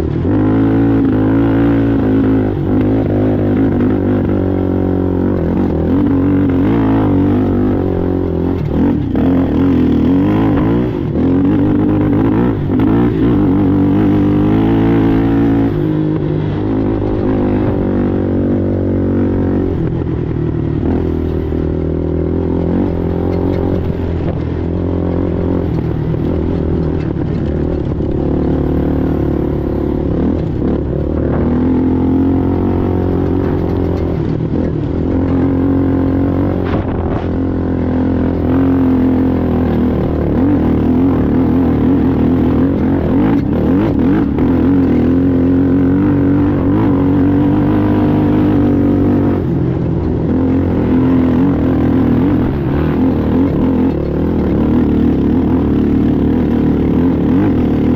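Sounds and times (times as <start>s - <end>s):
atv engine revving: 0.0s - 57.9s.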